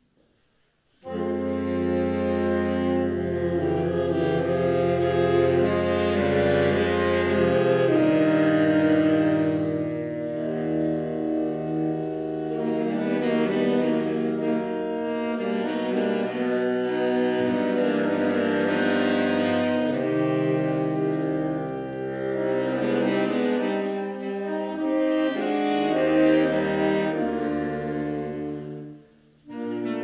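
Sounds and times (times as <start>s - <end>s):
saxophone quartet playing chords: 0.2s - 30.0s.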